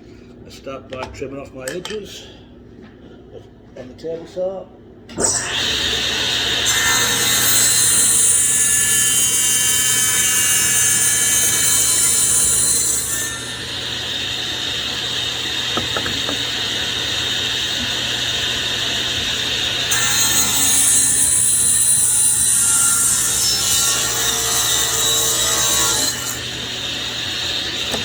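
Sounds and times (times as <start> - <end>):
table saw whining: 5.2 - 28.0.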